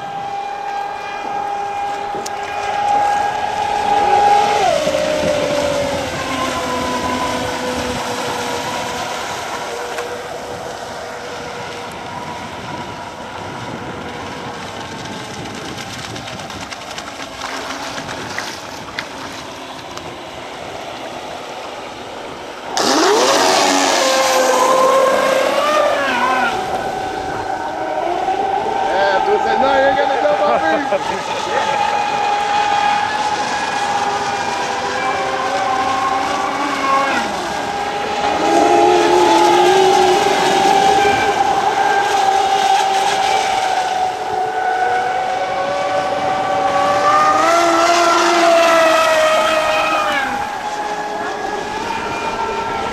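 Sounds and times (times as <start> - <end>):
high-pitched whine of rc boats: 0.0 - 52.9.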